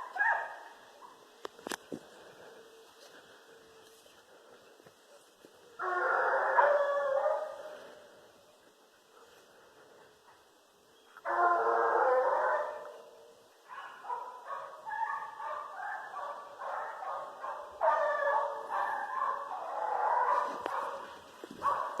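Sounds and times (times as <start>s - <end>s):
hounds baying: 2.2s - 22.0s.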